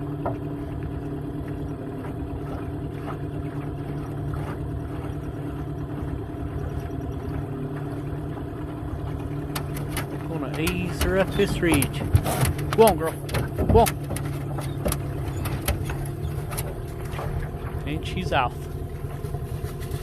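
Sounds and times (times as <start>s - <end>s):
outboard motor droning: 0.0s - 20.0s.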